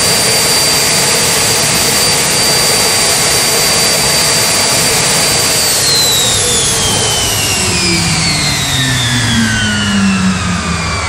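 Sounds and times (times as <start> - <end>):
jet engine exhaust rushing: 0.0 - 11.0
turbine whine: 0.0 - 11.0.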